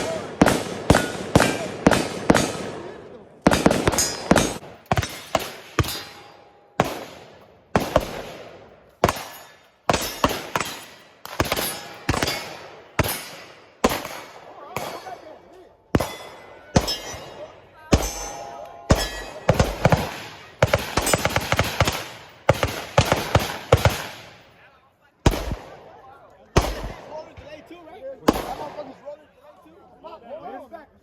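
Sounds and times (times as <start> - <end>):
gunshots with echo: 0.0 - 24.5, 25.2 - 26.0, 26.6 - 27.4, 28.3 - 29.0.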